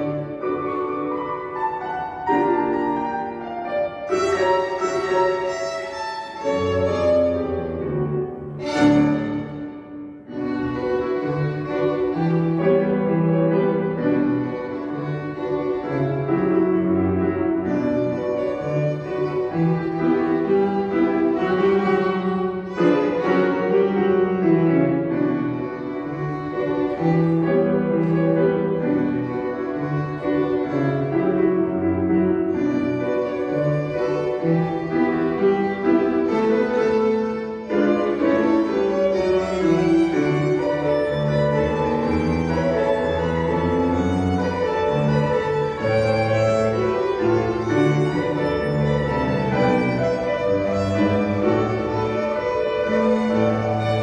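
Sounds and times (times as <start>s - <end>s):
bowed violin melody: 0.0s - 54.0s
piano accompaniment: 0.0s - 54.0s.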